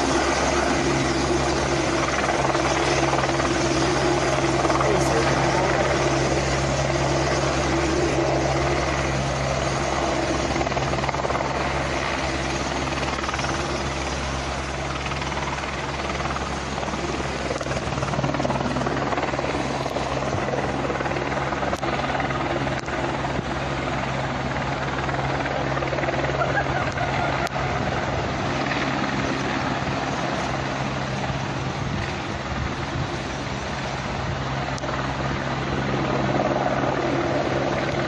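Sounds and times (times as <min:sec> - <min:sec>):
helicopter running: 0:00.0 - 0:38.0.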